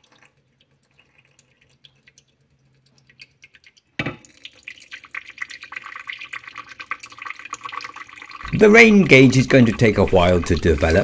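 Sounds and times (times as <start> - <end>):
water dripping: 0.0 - 11.0
water splashing: 0.8 - 11.0.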